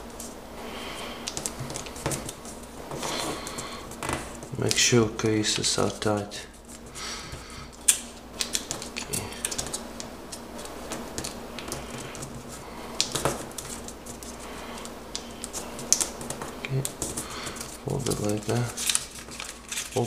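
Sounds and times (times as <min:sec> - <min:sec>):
paper folding clicks and rustles: 0:00.0 - 0:06.9, 0:07.7 - 0:20.0.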